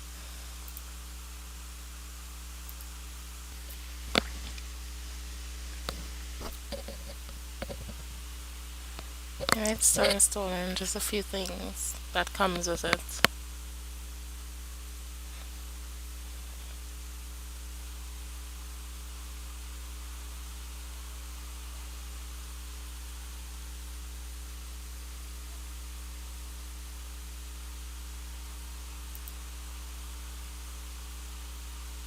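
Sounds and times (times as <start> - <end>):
constant hiss: 0.0 - 32.0
electrical hum: 0.0 - 32.0.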